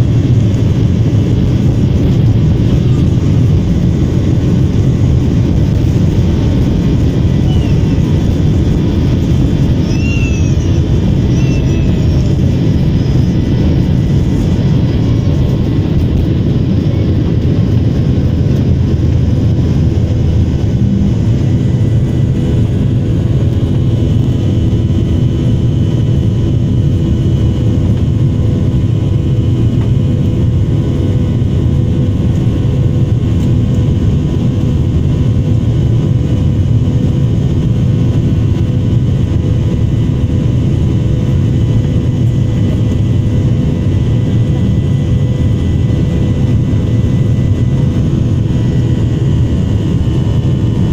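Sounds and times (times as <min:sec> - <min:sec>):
jet engine cabin drone: 0:00.0 - 0:50.9.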